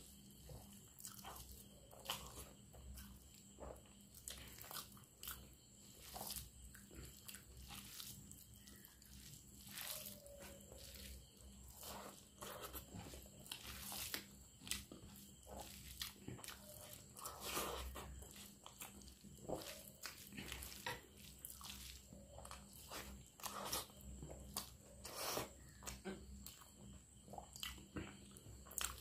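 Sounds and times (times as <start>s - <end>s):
fingers squelching rice: 0.6s - 25.9s.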